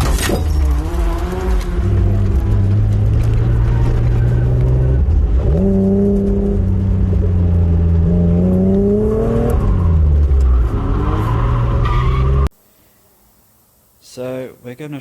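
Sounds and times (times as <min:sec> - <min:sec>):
car engine at high revs: 0:00.2 - 0:12.5.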